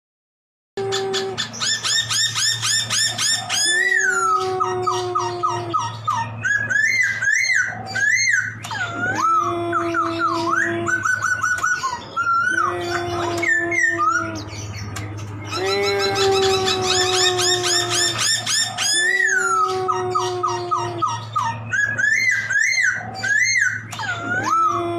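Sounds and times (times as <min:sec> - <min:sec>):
bird singing: 0:00.8 - 0:24.9.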